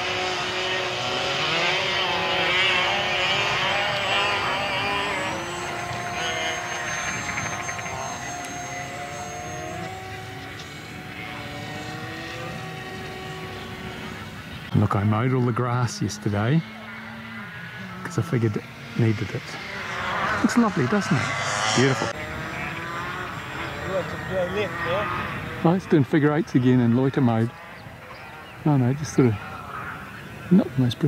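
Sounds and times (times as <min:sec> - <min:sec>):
model plane motor and propeller: 0:00.0 - 0:31.0.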